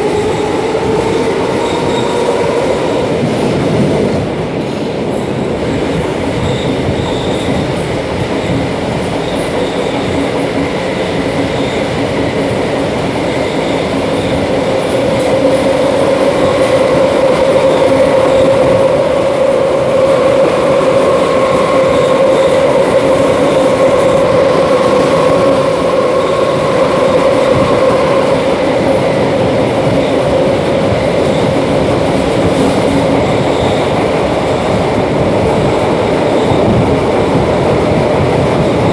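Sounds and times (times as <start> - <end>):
train rolling and rail noise: 0.0 - 38.9.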